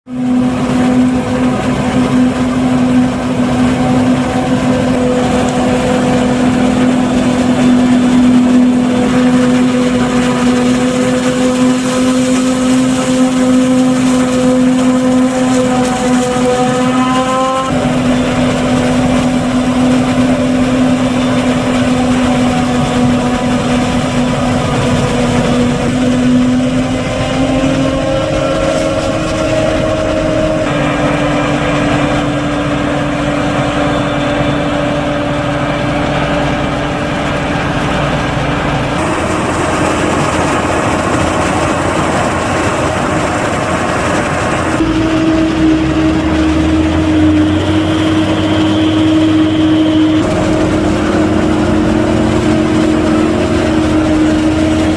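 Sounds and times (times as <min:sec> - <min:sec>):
forage harvester drone: 0:00.0 - 0:54.9
tractor running: 0:00.0 - 0:54.9.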